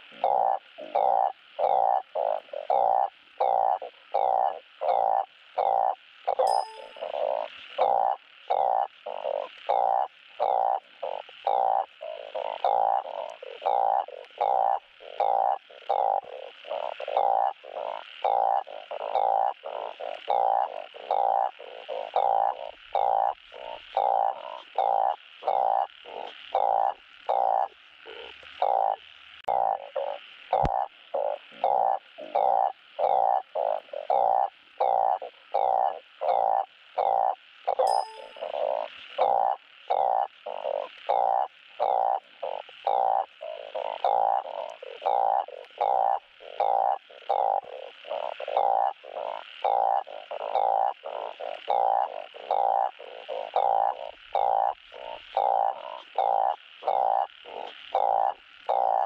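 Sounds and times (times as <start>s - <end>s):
frog croaking: 0.0s - 59.0s.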